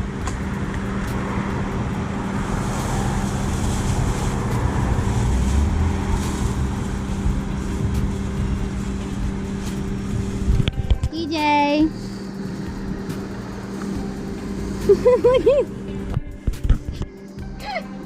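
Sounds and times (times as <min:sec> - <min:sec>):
engine hum: 0:00.0 - 0:18.0
road rumble: 0:00.0 - 0:18.0.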